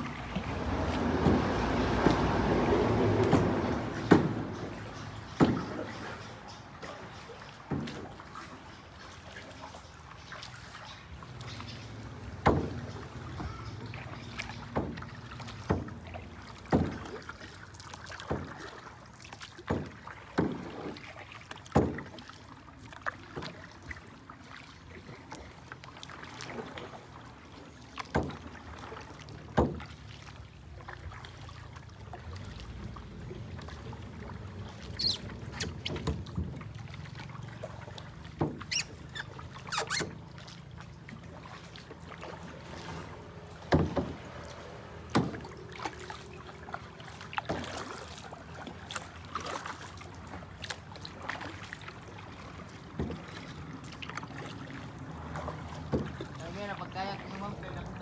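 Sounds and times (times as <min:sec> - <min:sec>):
paddle strokes in water: 0:00.0 - 0:58.0.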